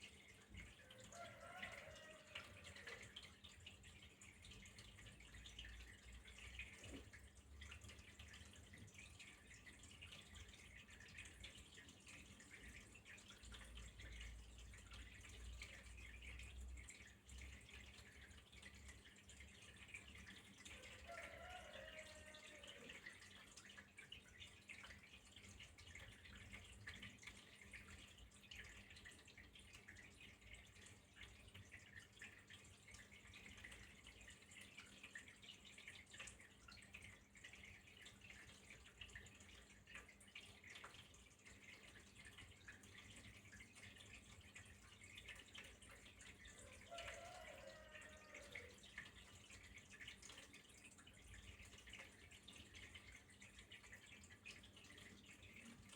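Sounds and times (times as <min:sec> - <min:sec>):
water trickling with drips: 0:00.0 - 0:55.9.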